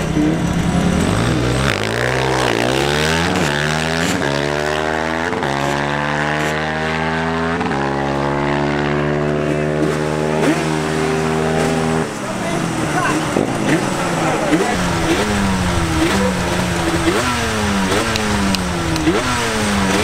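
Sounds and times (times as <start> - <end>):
quad engine at full throttle: 0.0 - 20.0.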